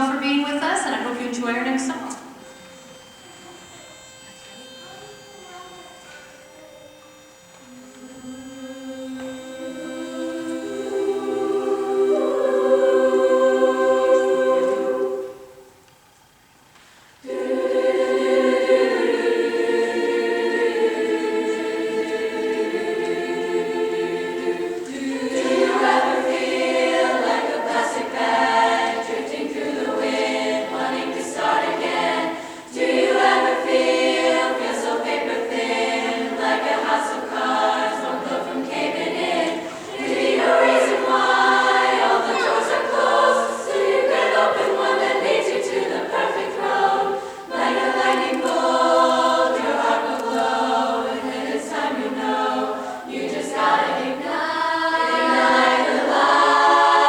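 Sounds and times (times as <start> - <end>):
women's choir singing a cappella: 7.7 - 15.8, 17.2 - 57.0.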